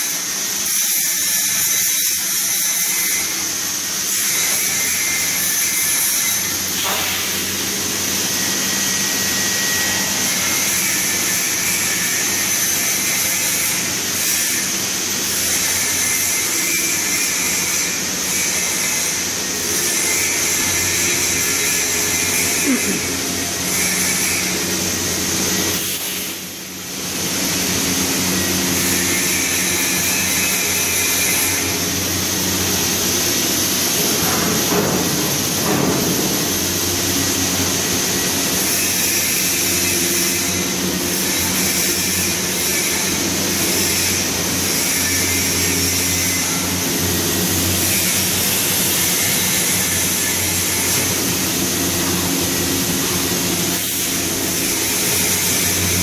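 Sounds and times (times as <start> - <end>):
machine hum and hiss: 0.0 - 56.0.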